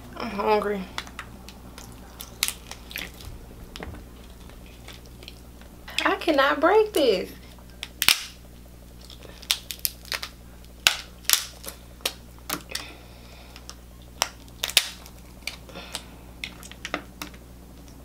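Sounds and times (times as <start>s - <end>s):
shellfish shell cracking: 0.9s - 6.1s, 7.5s - 18.0s.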